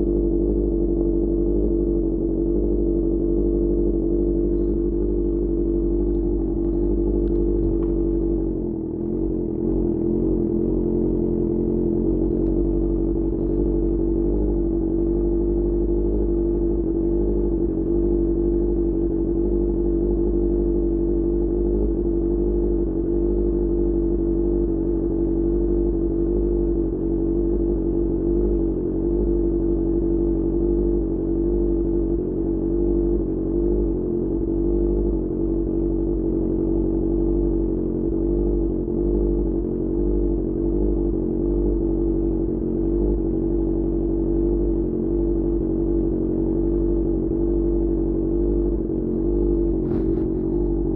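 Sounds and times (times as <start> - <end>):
motorcycle engine running steadily: 0.0 - 50.9.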